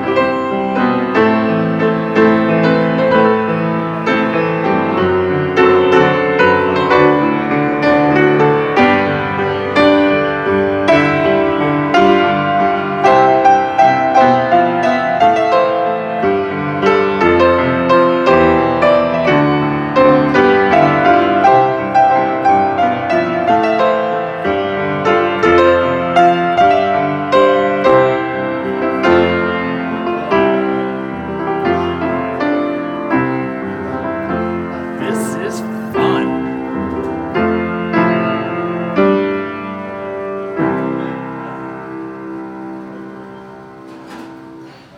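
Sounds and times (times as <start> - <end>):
solo piano piece: 0.0 - 44.9.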